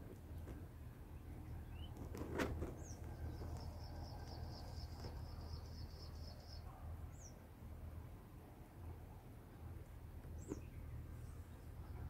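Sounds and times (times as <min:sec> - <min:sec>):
small birds chirping: 0:00.0 - 0:07.6, 0:09.5 - 0:12.0
low steady hum: 0:00.0 - 0:12.0.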